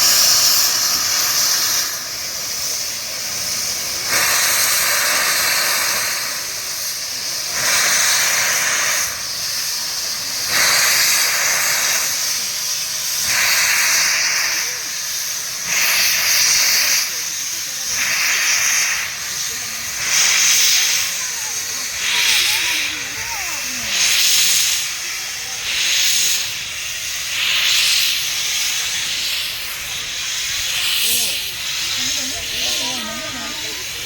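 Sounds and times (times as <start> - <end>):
steam locomotive hissing: 0.0 - 34.0.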